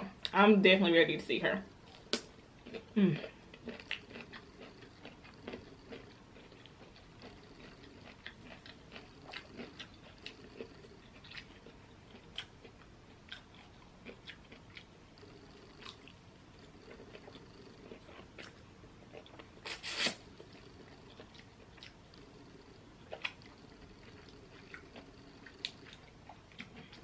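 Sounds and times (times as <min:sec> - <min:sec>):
close-miked chewing: 0:01.8 - 0:27.0.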